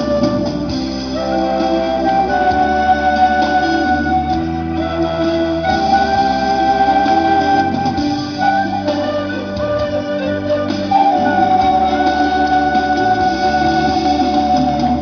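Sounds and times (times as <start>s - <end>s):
flute long held notes: 0.0s - 15.0s.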